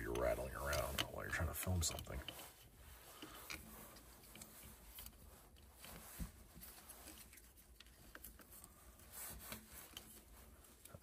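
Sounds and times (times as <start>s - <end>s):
cable clicks and rustles: 0.0s - 11.0s.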